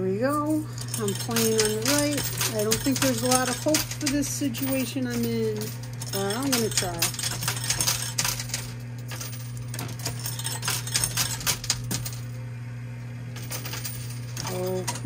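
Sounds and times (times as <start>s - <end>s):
steady low hum: 0.0s - 15.0s
coins clinking onto pile: 0.5s - 12.3s, 13.4s - 15.0s.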